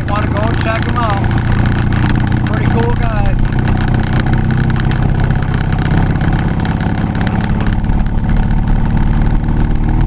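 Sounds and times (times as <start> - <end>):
vehicle engine and road noise: 0.0 - 10.0.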